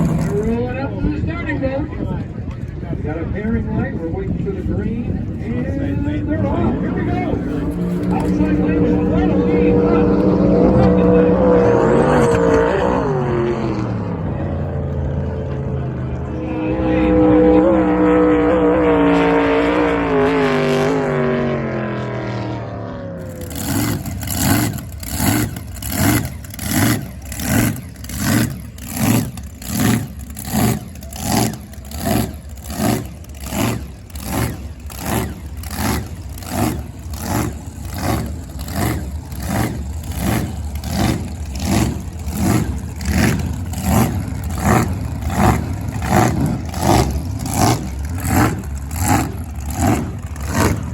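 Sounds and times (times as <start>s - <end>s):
jet boat engine passing: 0.0s - 3.1s, 4.2s - 50.9s.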